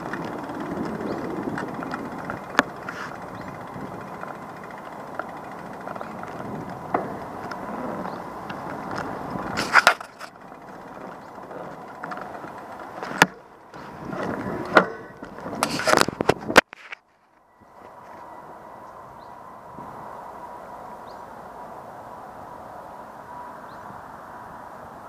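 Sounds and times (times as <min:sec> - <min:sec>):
distant traffic hum: 0:00.0 - 0:25.0.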